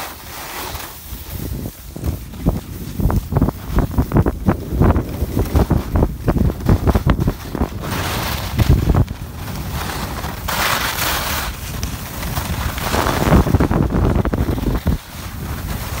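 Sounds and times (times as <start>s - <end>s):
skis scraping on packed snow: 0.0s - 16.0s
wind buffeting microphone: 1.2s - 16.0s.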